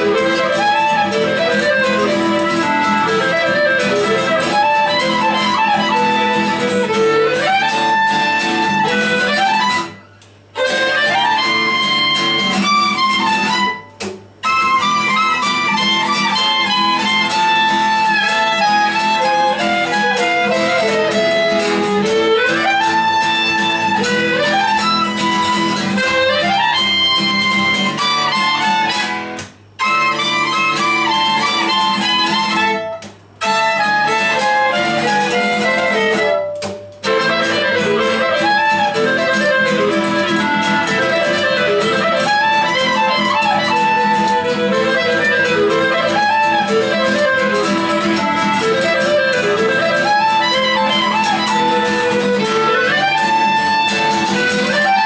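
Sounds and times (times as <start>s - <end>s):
acoustic guitar: 0.0s - 55.0s
clarinet: 0.0s - 55.0s
violin: 0.0s - 55.0s.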